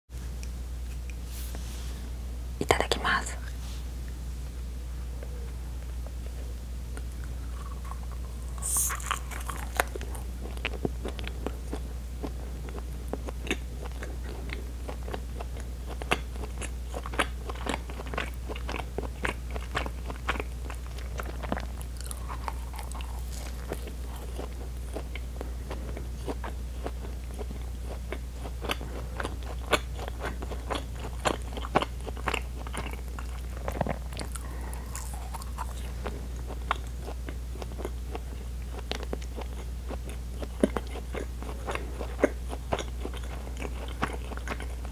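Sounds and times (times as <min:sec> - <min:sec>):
steady low hum: 0:00.1 - 0:44.9
biting and chewing bread: 0:07.0 - 0:44.9.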